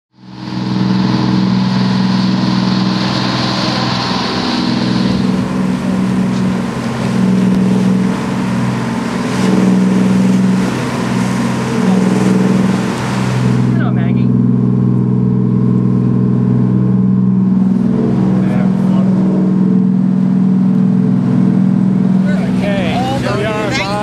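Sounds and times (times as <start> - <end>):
boat engine humming: 0.1 - 24.0.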